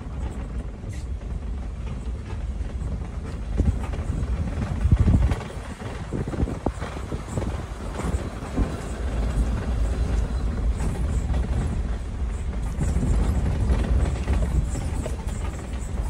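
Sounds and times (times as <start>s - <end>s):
engine and tyre rumble: 0.0s - 16.0s.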